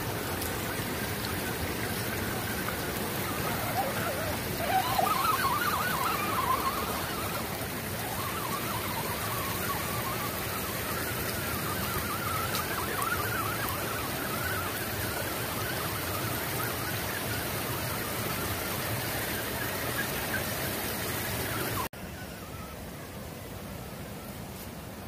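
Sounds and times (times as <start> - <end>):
creek rushing over stones: 0.0 - 21.9.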